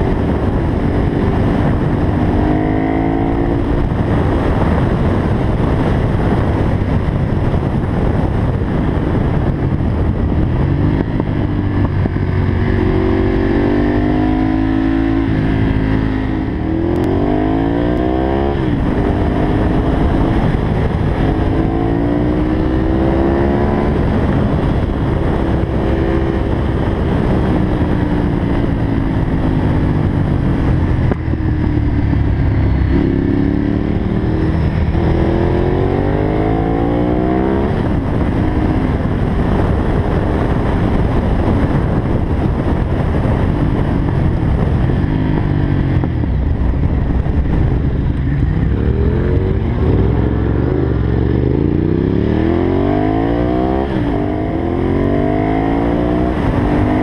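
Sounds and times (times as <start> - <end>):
motorcycle engine accelerating: 0.0 - 57.0
wind rushing on microphone: 0.0 - 57.0.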